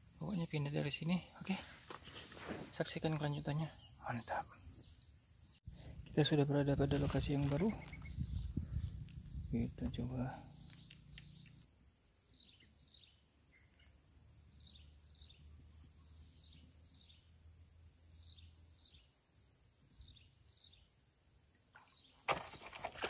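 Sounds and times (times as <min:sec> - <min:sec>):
bird chirping: 0:02.9 - 0:06.3, 0:07.2 - 0:23.0.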